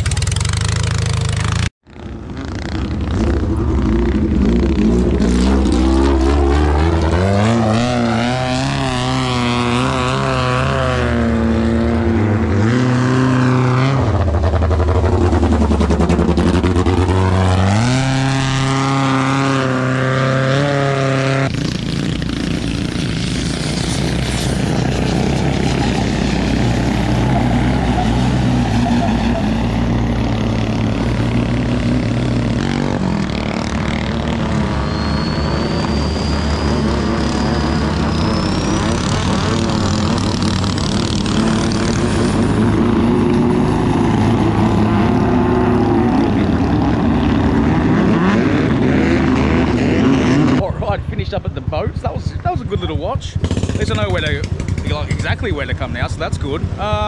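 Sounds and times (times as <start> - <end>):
boat engine revving: 2.8 - 51.1.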